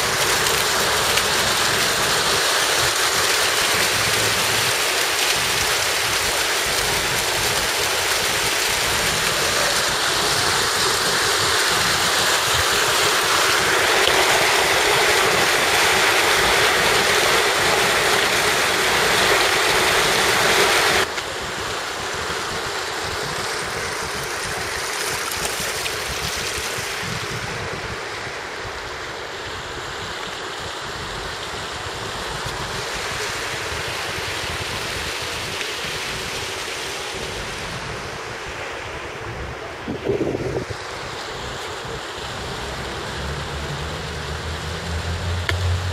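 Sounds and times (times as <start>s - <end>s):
fountain water splashing: 0.0s - 45.9s.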